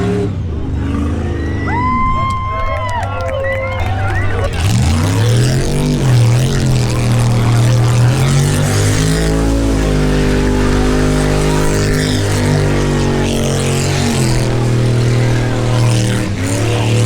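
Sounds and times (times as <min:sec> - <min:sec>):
engine at high revs: 0:00.0 - 0:01.7, 0:03.6 - 0:17.0.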